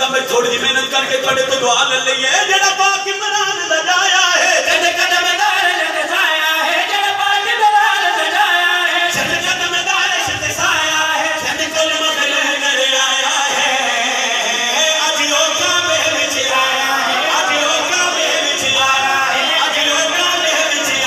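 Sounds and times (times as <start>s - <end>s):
man chanting over loudspeaker: 0.0s - 21.0s.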